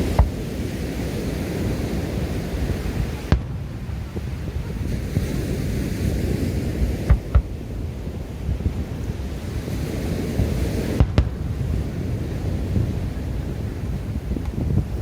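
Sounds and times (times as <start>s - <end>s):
fireworks bangs: 0.0s - 15.0s
wind buffeting microphone: 0.0s - 15.0s.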